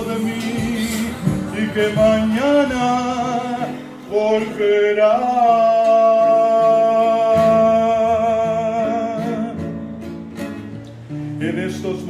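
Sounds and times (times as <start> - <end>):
man singing: 0.0 - 10.0, 11.3 - 12.0
strummed acoustic guitar: 0.0 - 12.0.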